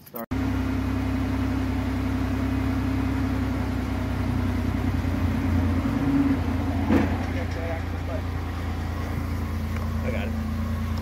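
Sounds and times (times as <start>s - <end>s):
car engine idling: 0.3s - 11.0s.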